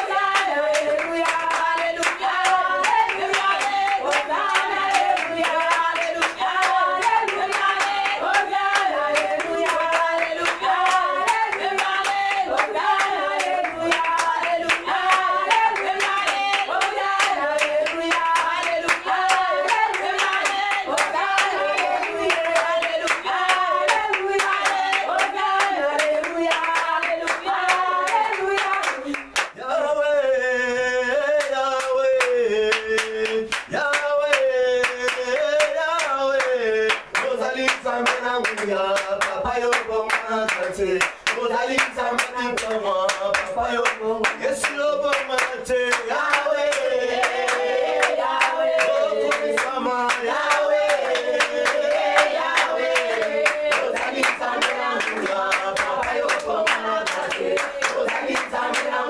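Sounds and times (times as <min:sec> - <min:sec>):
woman leading worship singing: 0:00.0 - 0:29.6, 0:37.2 - 0:59.0
congregation clapping: 0:00.0 - 0:30.6, 0:31.2 - 0:59.0.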